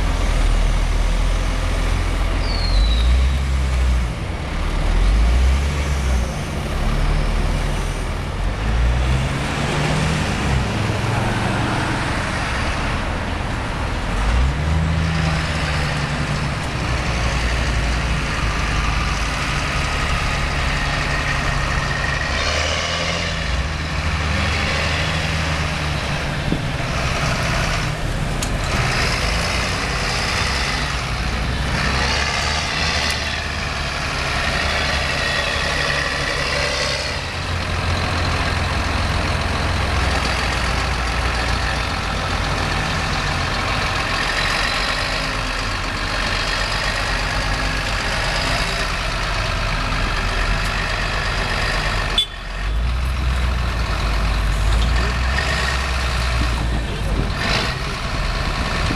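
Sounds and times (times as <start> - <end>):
heavy diesel engines under load: 0.0 - 58.9.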